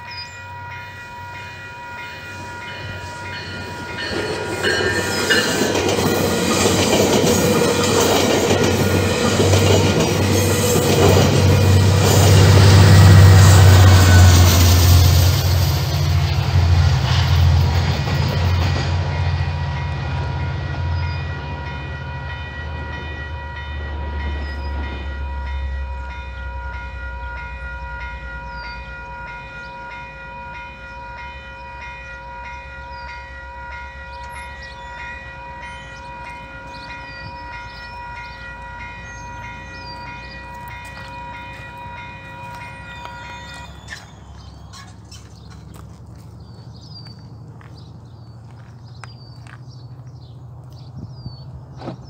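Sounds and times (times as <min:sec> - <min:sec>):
level-crossing warning bell: 0:00.0 - 0:45.1
train rumbling past: 0:00.0 - 0:52.0.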